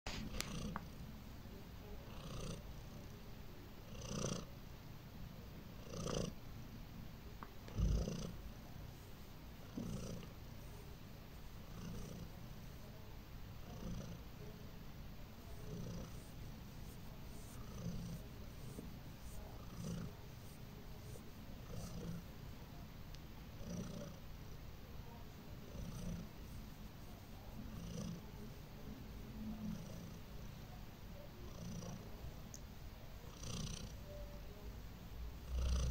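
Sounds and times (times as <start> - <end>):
cat purring: 0.1 - 1.0, 1.8 - 3.2, 3.8 - 4.6, 5.8 - 6.4, 7.4 - 22.8, 23.5 - 30.6, 31.4 - 32.2, 33.2 - 34.4, 35.4 - 35.9.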